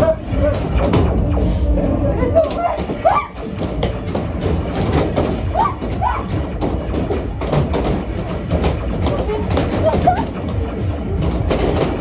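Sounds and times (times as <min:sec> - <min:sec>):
thuds and clicks: 0:02.4 - 0:12.0.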